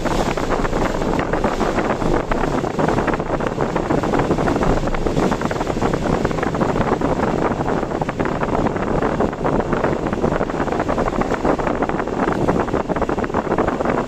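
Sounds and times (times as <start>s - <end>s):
car road noise: 0.0s - 14.0s
heavy rain tapping: 0.0s - 14.0s
strong wind rushing: 0.0s - 14.0s.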